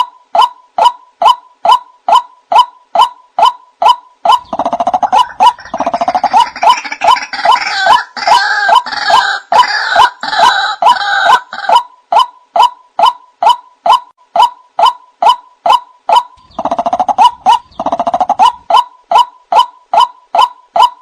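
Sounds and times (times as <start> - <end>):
bird repeated call notes: 0.0 - 21.0
harsh bird chattering: 0.0 - 21.0.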